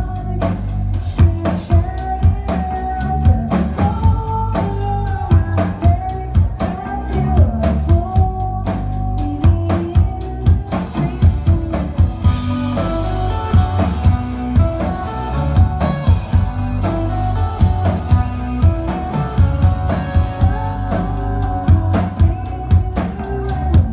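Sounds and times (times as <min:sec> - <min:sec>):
rock band playing live: 0:00.0 - 0:23.9.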